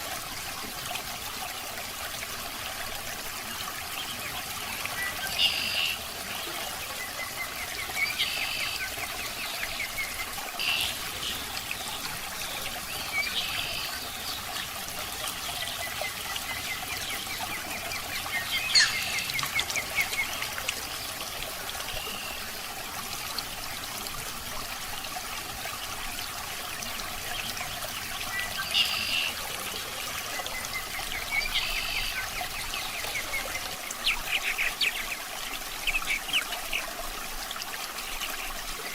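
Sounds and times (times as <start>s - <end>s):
water trickling into aquarium: 0.0s - 38.9s.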